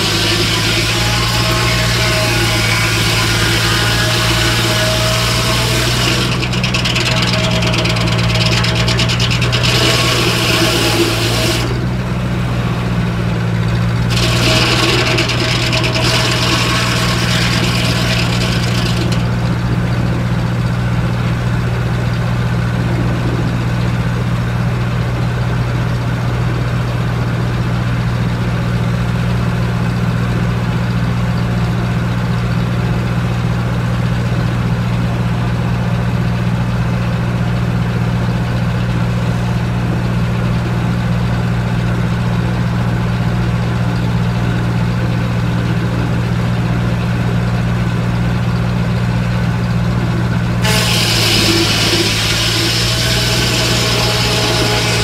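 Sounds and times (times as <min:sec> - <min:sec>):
tractor engine running steadily: 0:00.0 - 0:55.0.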